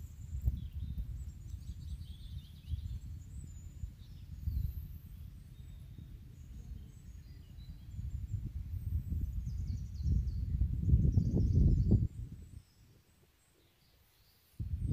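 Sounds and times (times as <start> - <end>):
wind rumbling on microphone: 0.0 - 13.1, 14.6 - 14.9
faint bird chirps: 0.0 - 14.9.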